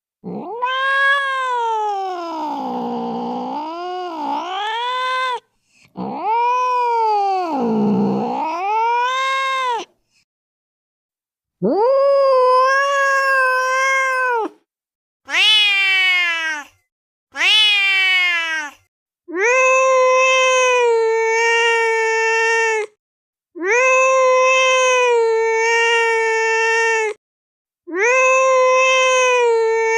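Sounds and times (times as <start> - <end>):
angry cat yowling: 0.2 - 9.9, 11.6 - 14.6, 15.3 - 16.7, 17.4 - 22.9, 23.6 - 27.2, 27.9 - 29.9.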